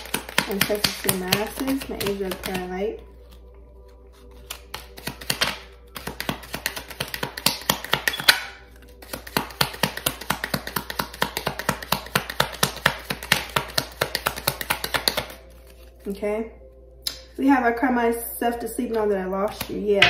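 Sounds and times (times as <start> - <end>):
cards being shuffled: 0.0 - 16.2.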